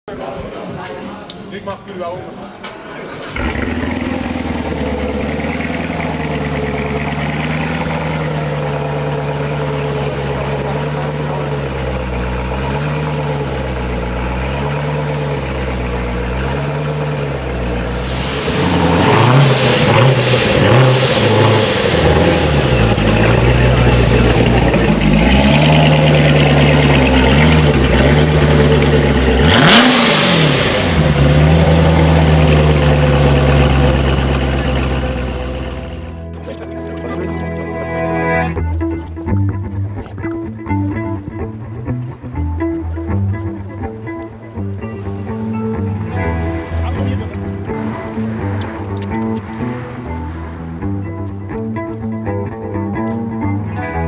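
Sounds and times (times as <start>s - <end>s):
car engine idling and revving: 2.8s - 54.0s.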